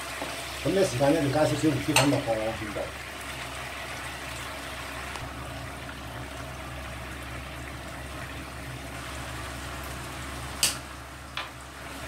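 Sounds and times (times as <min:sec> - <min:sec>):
sauce bubbling and sizzling: 0:00.0 - 0:12.0
low steady hum: 0:00.5 - 0:12.0.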